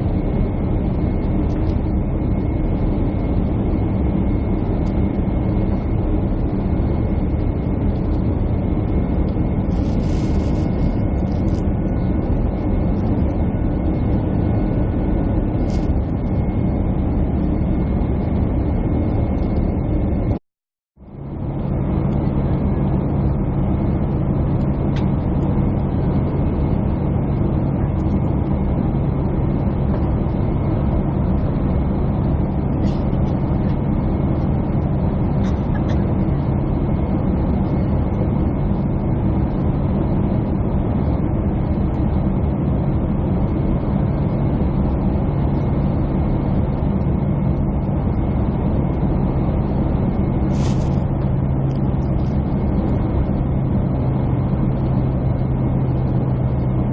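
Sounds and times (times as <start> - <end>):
airliner cabin drone: 0.0 - 20.4, 21.0 - 56.9.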